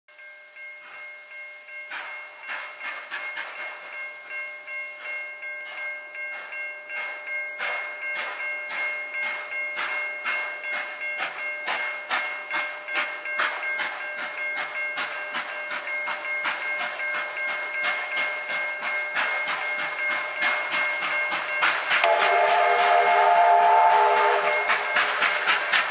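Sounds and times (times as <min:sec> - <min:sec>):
steam locomotive exhaust beats: 0:00.2 - 0:25.9.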